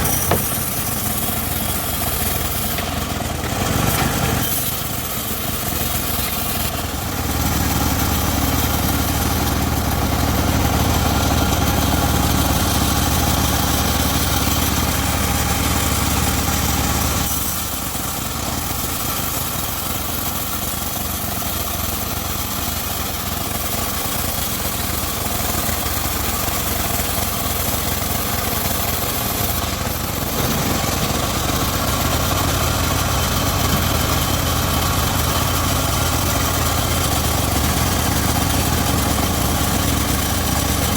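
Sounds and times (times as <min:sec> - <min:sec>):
saw engine running: 0:00.0 - 0:40.9.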